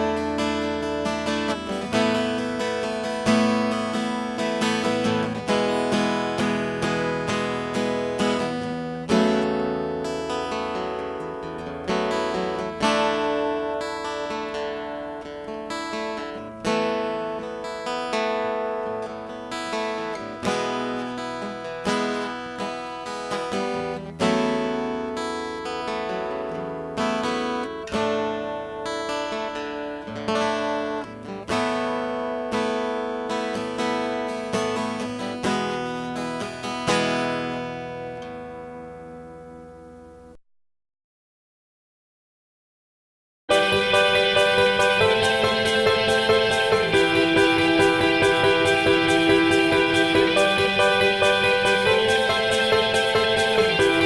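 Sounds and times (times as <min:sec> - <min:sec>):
acoustic guitar strummed: 0:00.0 - 0:40.4, 0:43.5 - 0:54.0.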